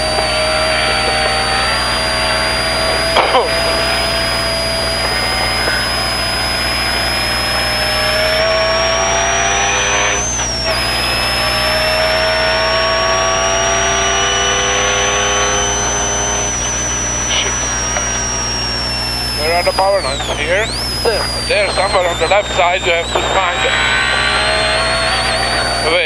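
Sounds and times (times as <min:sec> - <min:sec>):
rally car engine under load: 0:00.0 - 0:19.5, 0:20.2 - 0:26.0
high whine: 0:00.0 - 0:26.0.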